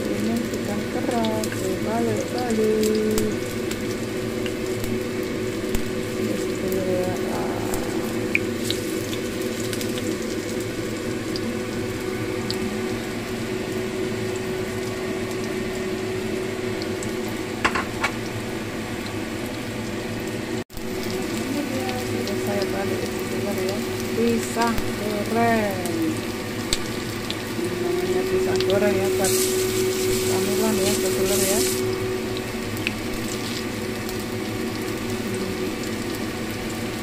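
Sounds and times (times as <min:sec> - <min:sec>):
faint steady hum: 0:00.0 - 0:37.0
fritters sizzling in oil: 0:00.0 - 0:37.0.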